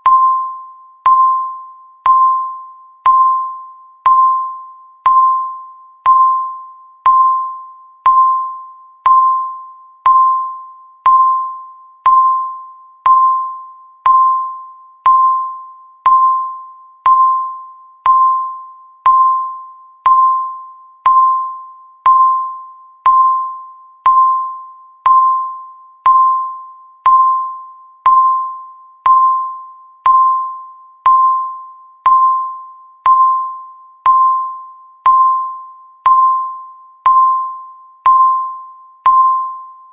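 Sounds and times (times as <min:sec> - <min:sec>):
electronic countdown timer beep: 0:00.0 - 0:39.9.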